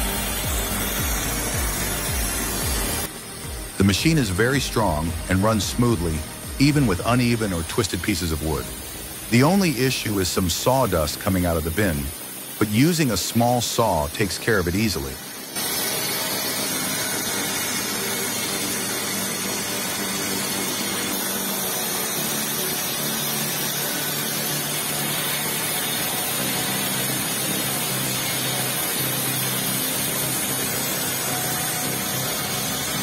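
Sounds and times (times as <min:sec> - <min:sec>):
saw blade hissing in wood: 0:00.0 - 0:33.0.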